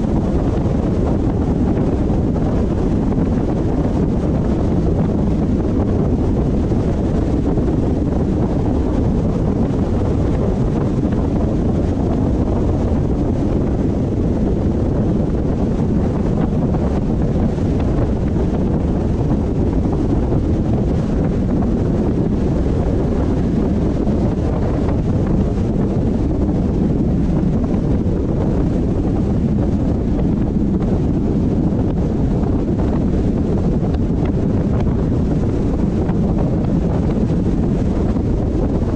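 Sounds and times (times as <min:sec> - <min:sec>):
road and wind noise from car: 0:00.0 - 0:38.9.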